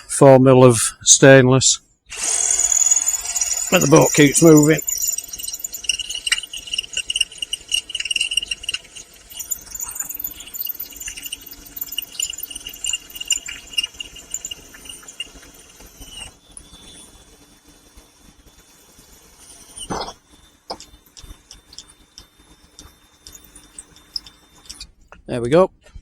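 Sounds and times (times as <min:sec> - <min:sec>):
drill bit chatter: 0:02.1 - 0:25.0
power drill boring through metal: 0:02.1 - 0:25.0.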